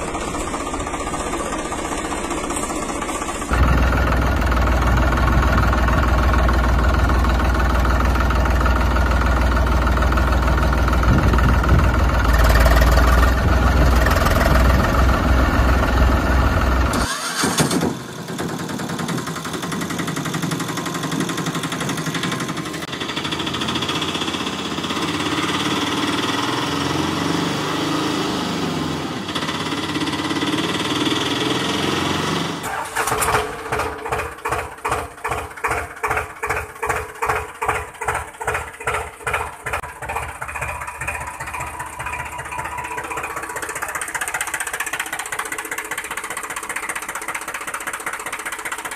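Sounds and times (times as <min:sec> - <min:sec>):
tractor engine humming: 0:00.0 - 0:48.9.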